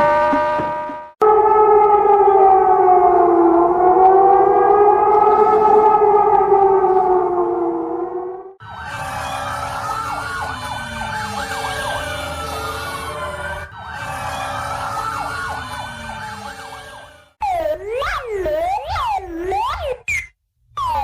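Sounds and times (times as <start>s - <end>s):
wailing sirens: 0.0s - 20.1s, 20.8s - 21.0s
siren yelp sweeps: 0.0s - 20.2s, 20.8s - 21.0s.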